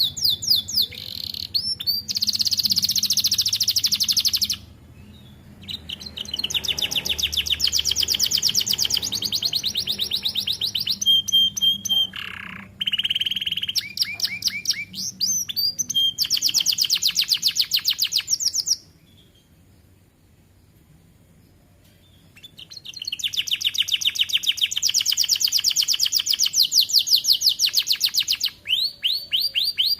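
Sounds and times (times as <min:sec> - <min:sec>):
canary singing trills: 0:00.0 - 0:20.0, 0:21.9 - 0:29.9.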